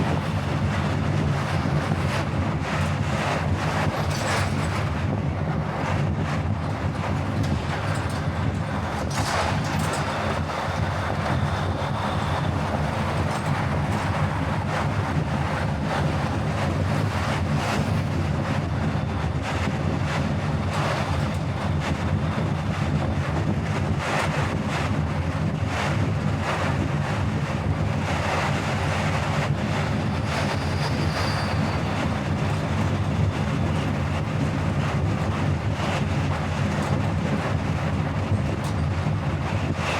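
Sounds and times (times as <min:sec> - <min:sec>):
road and engine rumble: 0:00.0 - 0:39.9
wind buffeting microphone: 0:00.0 - 0:39.9.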